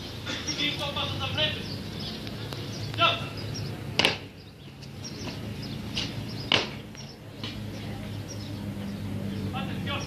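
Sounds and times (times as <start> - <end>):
boots stamping on pavement: 0.5 - 10.0.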